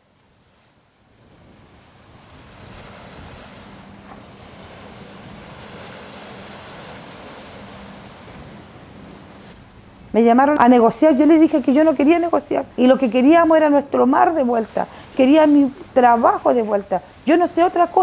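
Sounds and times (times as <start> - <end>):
sea waves washing: 0.0 - 18.0
wind: 0.0 - 18.0.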